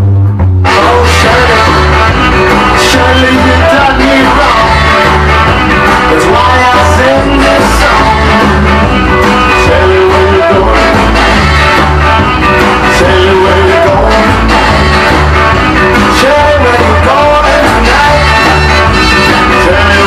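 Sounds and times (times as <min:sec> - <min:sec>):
rockabilly band playing: 0:00.0 - 0:20.0
person singing: 0:00.7 - 0:11.9, 0:12.8 - 0:15.3, 0:15.9 - 0:20.0.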